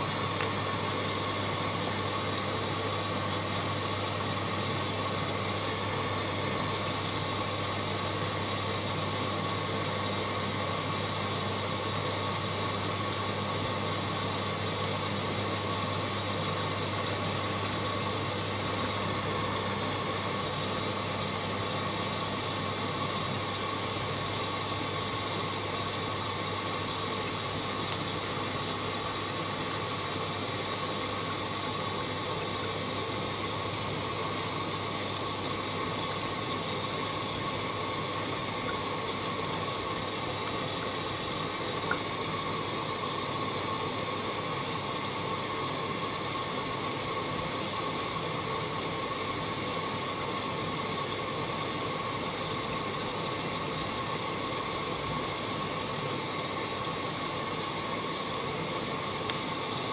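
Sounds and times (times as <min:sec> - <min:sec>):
motor hum with high whine: 0:00.0 - 0:59.9.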